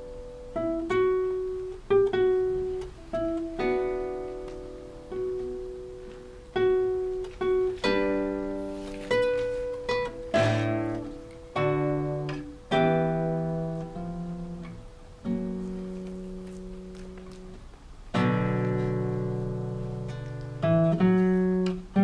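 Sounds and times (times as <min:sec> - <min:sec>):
classical guitar plucked chords: 0:00.0 - 0:22.0.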